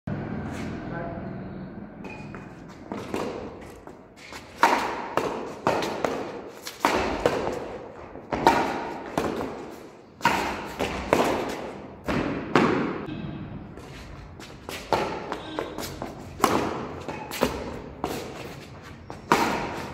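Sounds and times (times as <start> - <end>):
rackets hitting shuttlecock: 2.0 - 13.1, 14.4 - 19.9.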